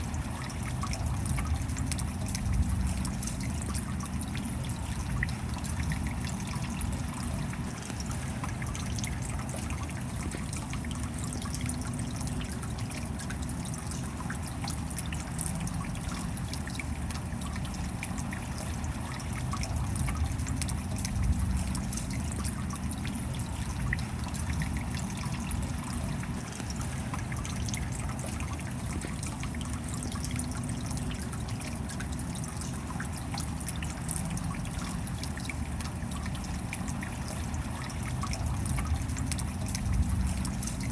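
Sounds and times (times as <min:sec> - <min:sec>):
rain pattering: 0:00.0 - 0:40.9
water trickling and dripping: 0:00.0 - 0:40.9.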